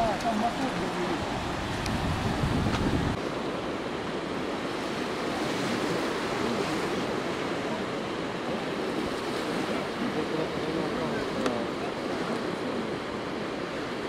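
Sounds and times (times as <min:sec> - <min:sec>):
waves washing onto shore: 0:00.0 - 0:14.0
wind: 0:00.0 - 0:14.0.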